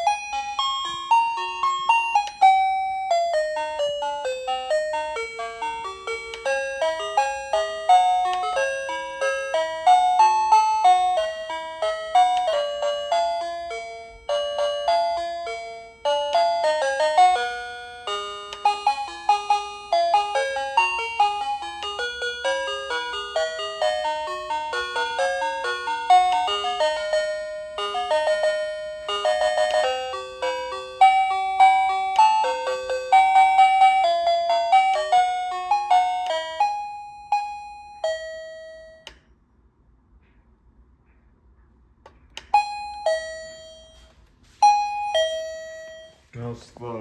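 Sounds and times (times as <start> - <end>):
doorbell melody chimes: 0.0 - 39.2, 42.4 - 47.0.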